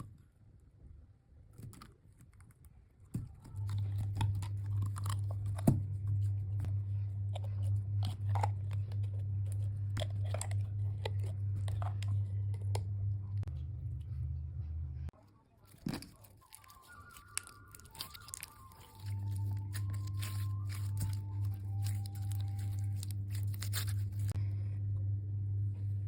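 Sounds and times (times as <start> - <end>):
steady low hum: 3.2 - 16.1, 17.1 - 26.0.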